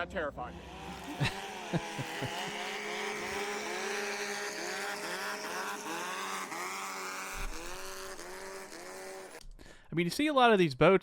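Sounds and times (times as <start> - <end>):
boat engine at high revs: 0.0 - 9.4.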